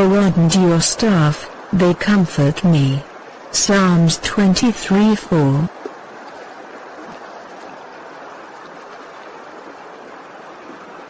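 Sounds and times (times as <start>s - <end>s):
running water: 0.0s - 11.0s.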